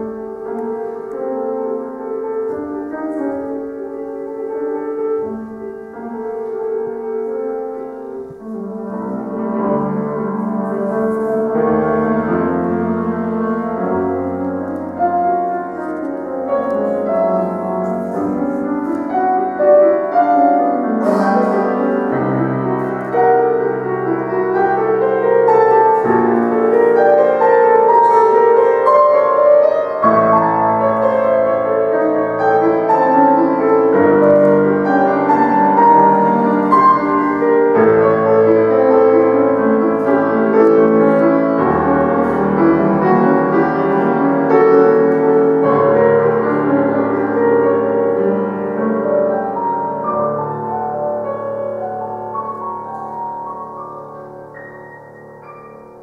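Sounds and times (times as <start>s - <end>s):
solo classical piano: 0.0s - 56.0s.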